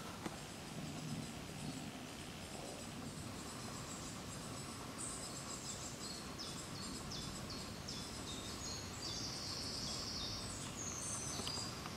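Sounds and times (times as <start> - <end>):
songbird singing: 0.0 - 11.9
woodland background hiss: 0.0 - 11.9.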